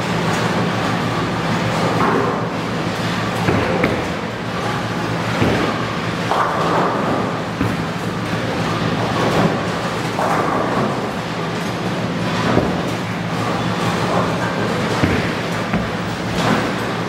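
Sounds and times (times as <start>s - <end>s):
steady low hum: 0.0s - 17.0s
bowling balls rolling: 0.4s - 17.0s
bowling pins crashing: 1.7s - 17.0s.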